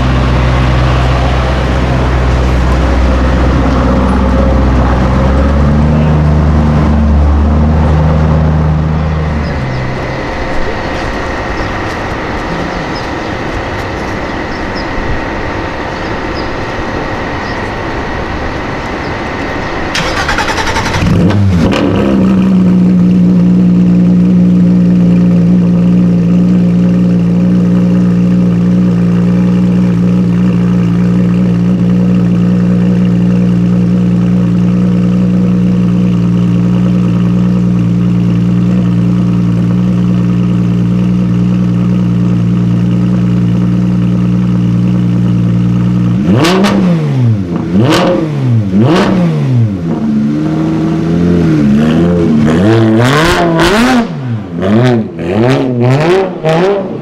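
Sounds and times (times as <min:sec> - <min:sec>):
car engine cranking: 0:00.0 - 0:23.8, 0:25.9 - 0:57.0
car engine idling: 0:00.0 - 0:57.0.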